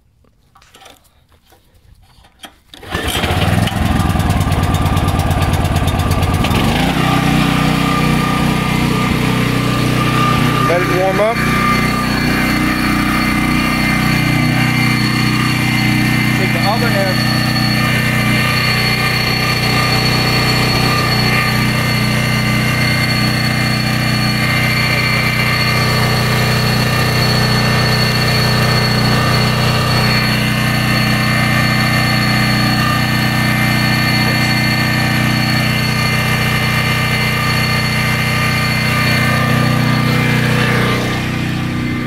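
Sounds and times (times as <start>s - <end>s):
portable generator running: 2.8s - 42.0s.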